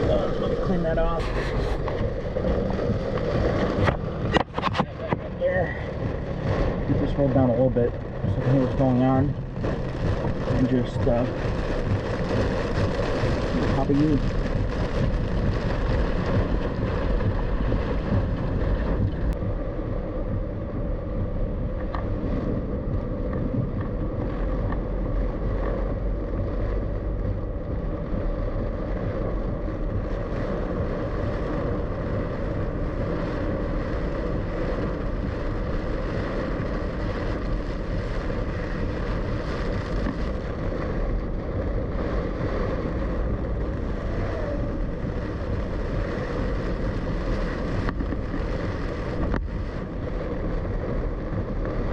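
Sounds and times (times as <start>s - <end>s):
car engine and road drone: 0.0s - 51.9s
rain and wind on car: 0.0s - 51.9s.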